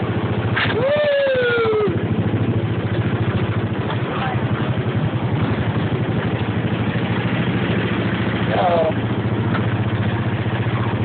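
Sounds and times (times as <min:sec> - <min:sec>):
go-kart engine puttering: 0:00.0 - 0:11.0.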